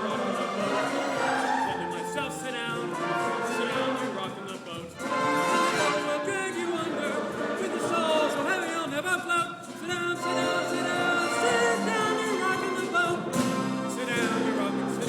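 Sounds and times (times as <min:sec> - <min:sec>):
choir singing with vibrato: 0:00.0 - 0:15.0
orchestra playing: 0:00.0 - 0:15.0.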